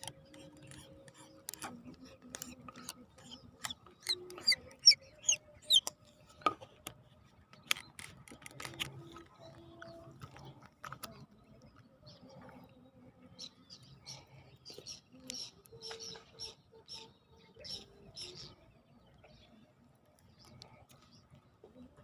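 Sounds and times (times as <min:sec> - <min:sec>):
small bird chirping: 0:00.0 - 0:06.4, 0:07.6 - 0:21.9.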